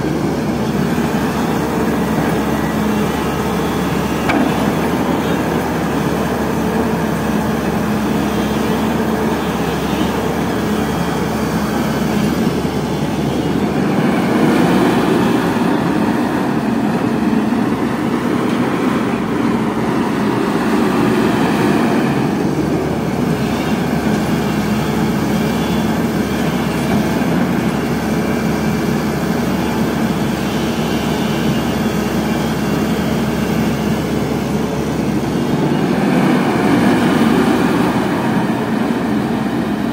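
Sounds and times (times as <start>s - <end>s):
excavator diesel engine running: 0.0s - 39.9s
hydraulics working: 0.0s - 39.9s.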